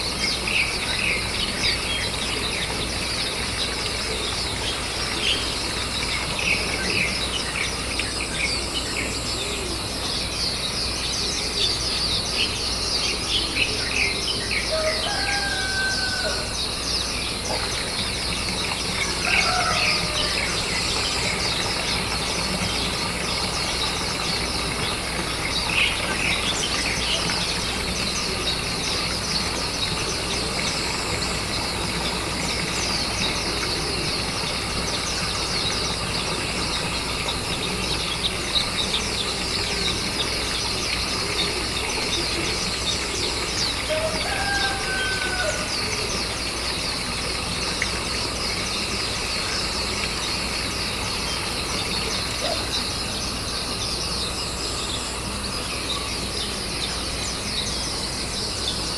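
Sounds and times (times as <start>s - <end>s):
birds chirping: 0.0s - 58.9s
lower bird calls: 0.0s - 58.9s.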